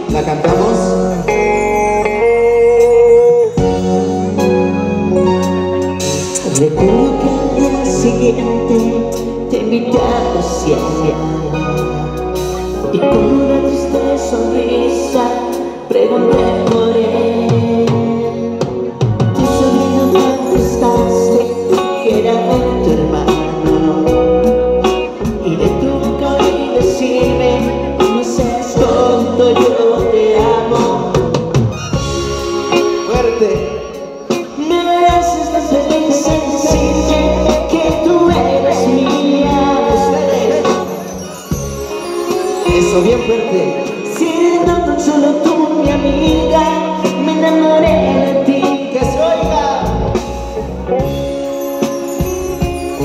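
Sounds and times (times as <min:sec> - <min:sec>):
man singing into microphone: 0:00.0 - 0:05.4, 0:06.0 - 0:51.1
bass guitar: 0:00.0 - 0:53.0
drums: 0:00.0 - 0:53.0
live band steady beat: 0:00.0 - 0:53.0.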